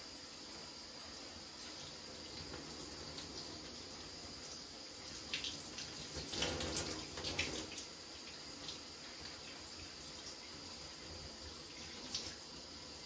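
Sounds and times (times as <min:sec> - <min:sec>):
shower water running: 0:00.0 - 0:13.0.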